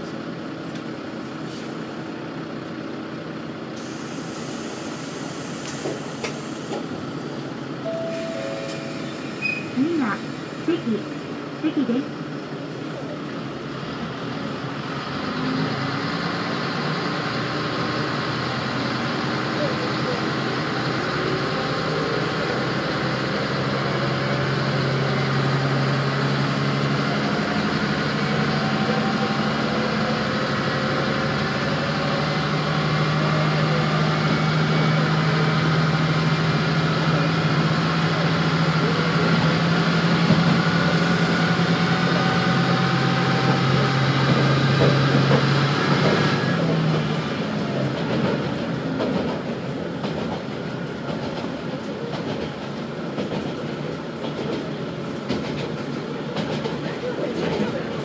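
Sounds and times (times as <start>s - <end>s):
diesel railcar engine drone: 0.0s - 58.0s.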